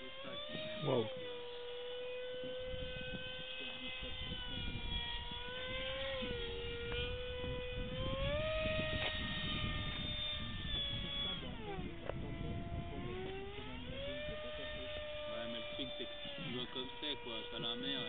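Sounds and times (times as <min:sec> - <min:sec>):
electric model plane motor whining: 0:00.0 - 0:18.0.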